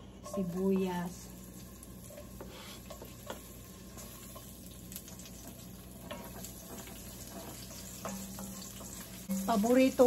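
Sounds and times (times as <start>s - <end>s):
onion sizzling in a pan: 0.0s - 10.0s
wooden spatula tapping and scraping: 0.1s - 1.2s, 2.1s - 10.0s.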